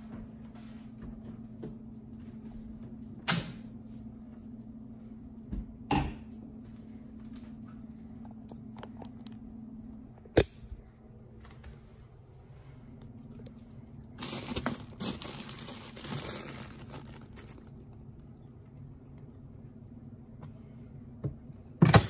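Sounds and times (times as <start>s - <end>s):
low hum: 0.0s - 21.8s.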